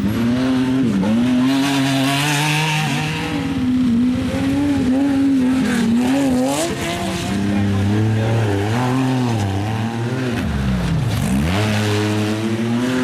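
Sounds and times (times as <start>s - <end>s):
engine revving hard: 0.0s - 13.0s.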